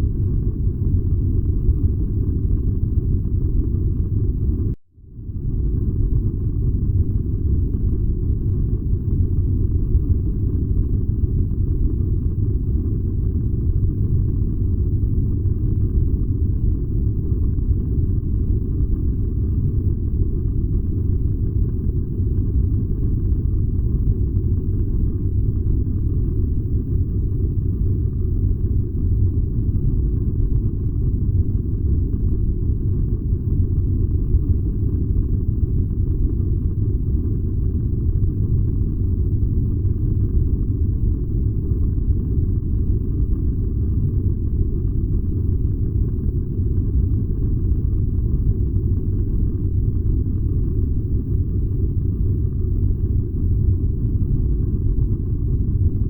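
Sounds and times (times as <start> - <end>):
furnace burning with low rumble: 0.0 - 56.0.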